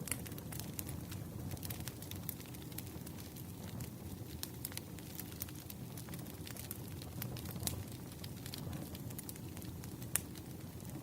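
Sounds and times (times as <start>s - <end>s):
low fire rumble: 0.0s - 11.0s
wood fire crackling: 0.0s - 11.0s.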